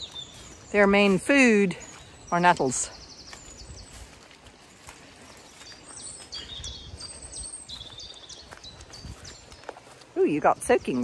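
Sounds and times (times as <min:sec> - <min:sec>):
songbirds chirping and whistling: 0:00.0 - 0:11.0.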